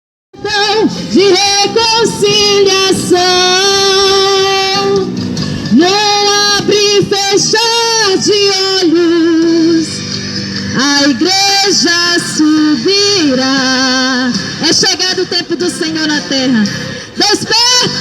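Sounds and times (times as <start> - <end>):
woman singing a hymn: 0.4 - 5.1, 5.7 - 10.0, 10.7 - 18.0.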